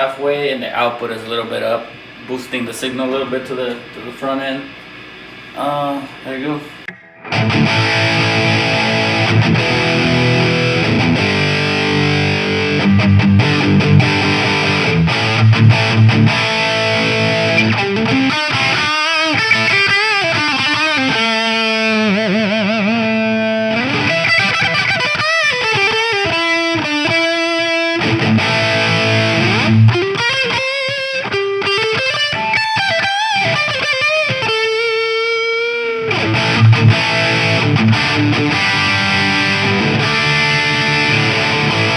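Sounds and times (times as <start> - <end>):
distorted electric guitar: 1.5 - 41.9.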